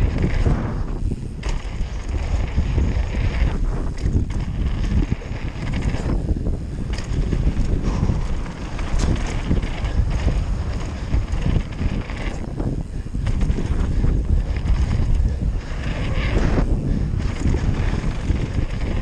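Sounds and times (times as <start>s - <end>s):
bike tyres rolling over dirt: 0.0s - 19.0s
wind buffeting microphone: 0.0s - 19.0s.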